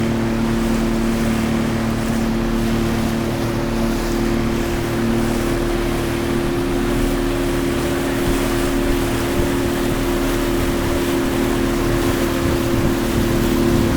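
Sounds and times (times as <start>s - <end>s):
motorboat engine droning: 0.0s - 13.9s
rush of wind and water: 0.0s - 13.9s.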